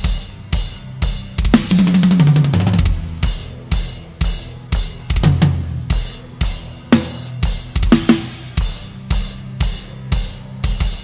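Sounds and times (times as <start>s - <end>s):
drum kit beat and fills: 0.0s - 11.0s
heavy metal band playing: 0.0s - 11.0s.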